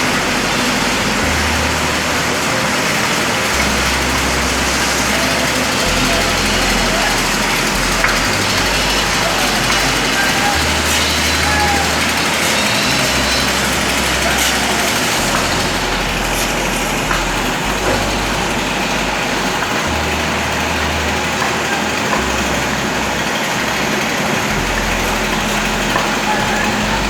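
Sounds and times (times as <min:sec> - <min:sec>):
heavy engine running: 0:00.0 - 0:27.0.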